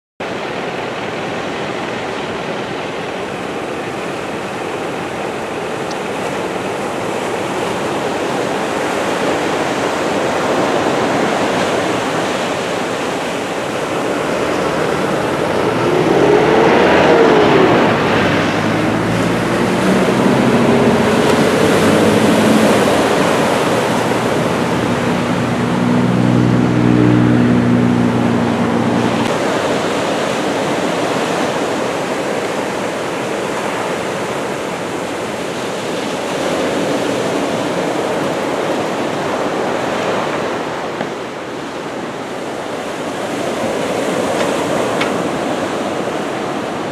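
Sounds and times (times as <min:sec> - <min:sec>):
low engine hum: 0:00.2 - 0:46.9
ocean surf breaking on shore: 0:00.2 - 0:46.9
road vehicle passing: 0:00.4 - 0:46.9.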